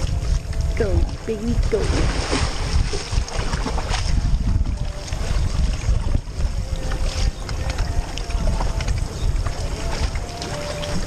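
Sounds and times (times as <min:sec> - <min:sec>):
faint water splashes: 0:00.0 - 0:11.0
wind buffeting microphone: 0:00.0 - 0:11.0.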